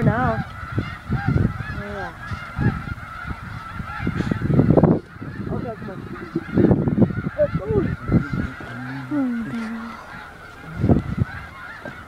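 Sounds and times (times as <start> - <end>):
geese honking: 0.0 - 12.0
wind rumbling on microphone: 0.0 - 12.0.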